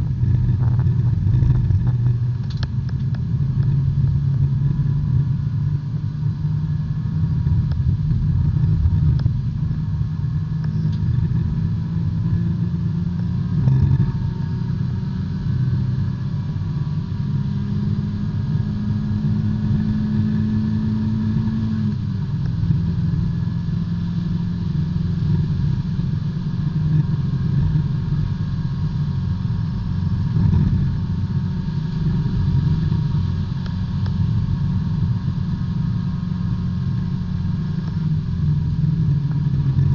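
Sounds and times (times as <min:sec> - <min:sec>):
race car engine running: 0:00.0 - 0:39.9
road and tyre noise: 0:00.0 - 0:39.9.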